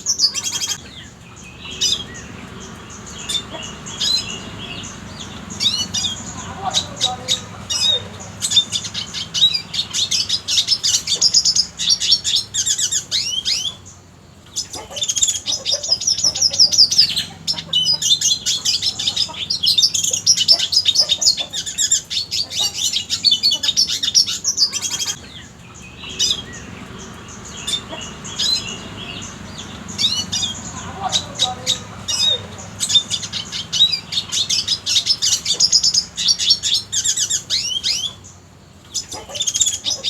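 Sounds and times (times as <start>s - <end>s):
bird twittering and trilling: 0.0s - 40.0s.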